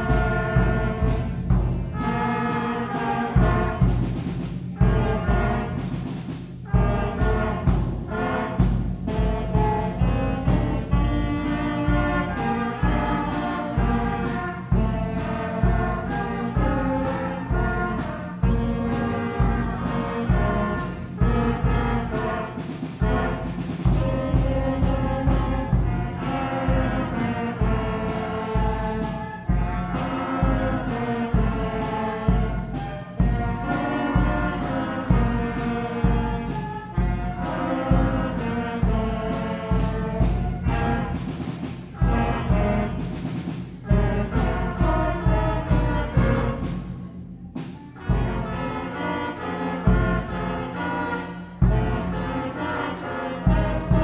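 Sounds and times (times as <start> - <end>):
concert band playing: 0.0 - 54.0
flutes: 0.0 - 54.0
french horns: 0.0 - 54.0
steady drum strikes: 0.0 - 54.0
trumpets: 0.0 - 54.0.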